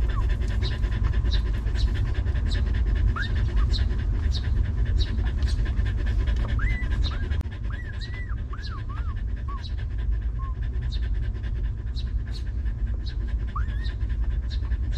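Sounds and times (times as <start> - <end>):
puppies squeaking: 0.0 - 9.8, 12.3 - 14.7
constant low rumble: 0.0 - 14.9.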